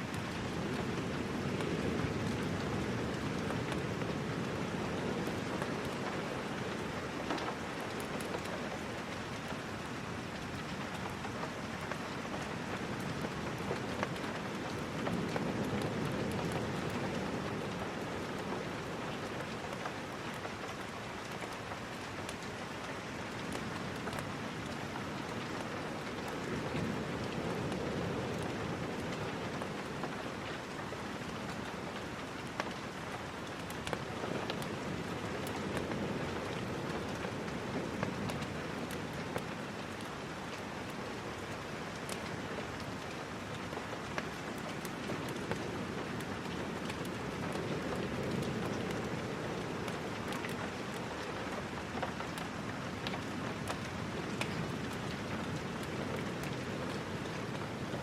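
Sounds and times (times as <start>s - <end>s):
rain drops ticking and popping: 0.0s - 58.0s
steady rain hiss: 0.0s - 58.0s.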